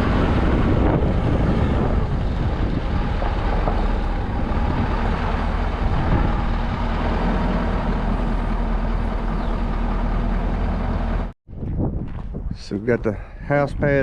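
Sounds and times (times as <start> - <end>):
truck engine running: 0.0 - 11.4.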